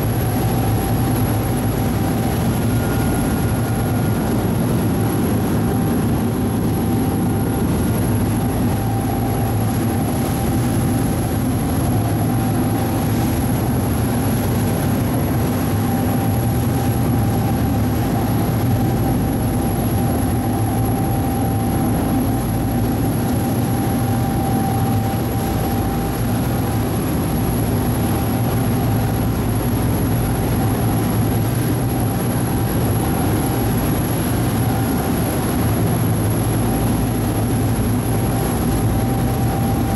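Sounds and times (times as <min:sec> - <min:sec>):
faint steady whine: 0:00.0 - 0:39.9
ferry engine drone: 0:00.0 - 0:39.9.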